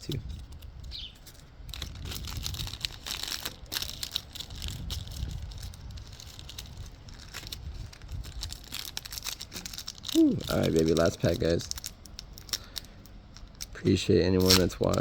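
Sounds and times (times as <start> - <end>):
cards being handled: 0.0 - 15.0
foil wrapper crinkling: 0.0 - 15.0.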